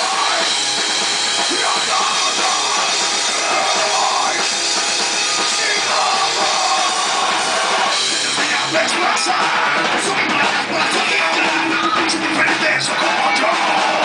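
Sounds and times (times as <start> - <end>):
loud rock band music: 0.0 - 14.0.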